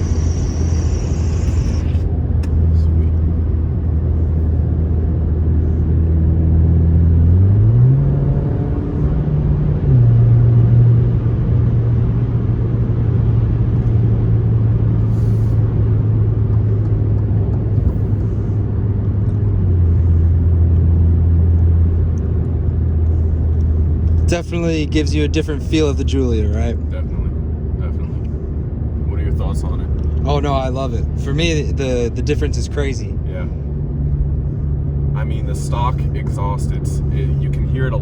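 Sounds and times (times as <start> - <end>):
car engine drone from cabin: 0.0 - 38.0.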